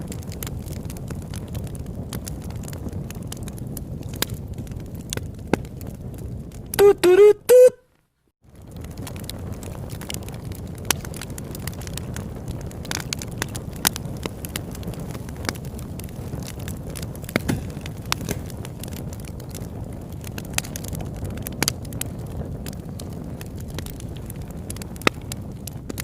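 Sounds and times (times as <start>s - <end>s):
campfire low rush: 0.0s - 7.8s, 8.4s - 26.0s
wood crackling and popping: 0.0s - 26.0s.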